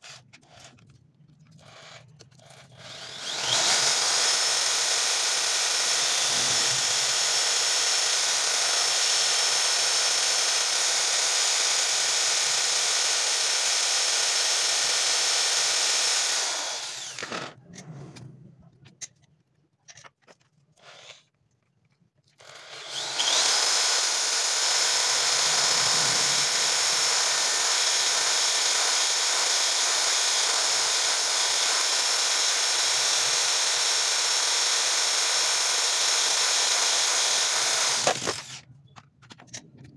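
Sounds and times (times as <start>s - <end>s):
electric drill running: 1.6s - 17.6s, 22.4s - 38.7s.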